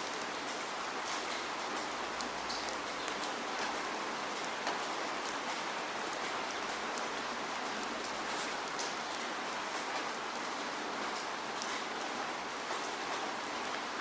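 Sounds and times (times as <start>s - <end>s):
raindrops ticking on a surface: 0.0s - 14.0s.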